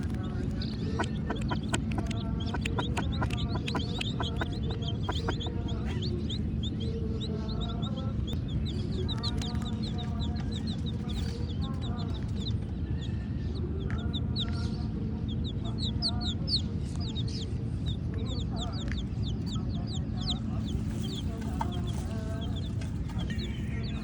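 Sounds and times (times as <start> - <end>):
baby chicks peeping: 0.0 - 24.0
steady low rumble: 0.0 - 24.0.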